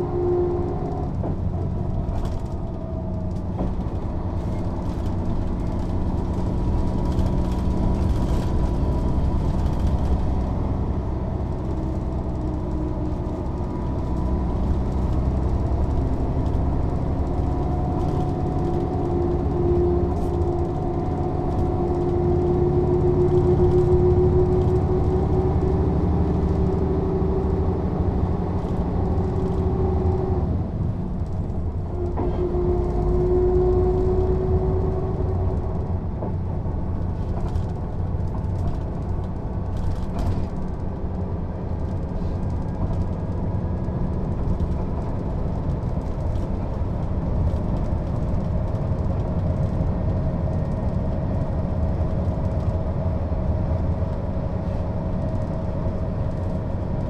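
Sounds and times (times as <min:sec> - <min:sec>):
bus diesel engine whining drone: 0:00.0 - 0:57.0.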